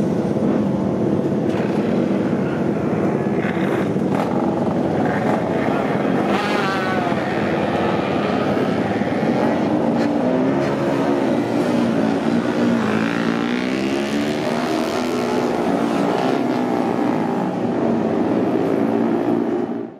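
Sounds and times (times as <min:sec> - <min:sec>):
motorcycle engines revving: 0:00.0 - 0:19.9.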